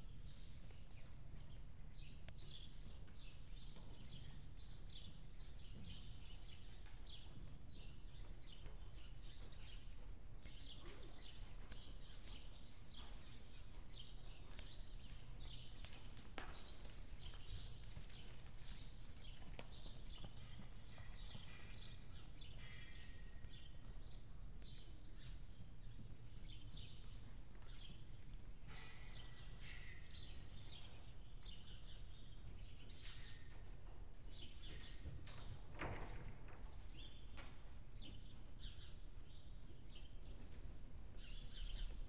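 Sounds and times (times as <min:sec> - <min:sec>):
horse hoofbeats on sand: 0:00.9 - 0:42.0.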